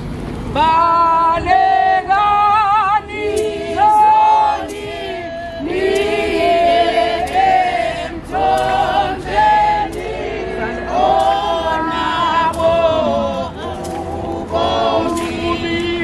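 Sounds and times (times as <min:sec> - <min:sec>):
women's choir singing a hymn: 0:00.6 - 0:16.0.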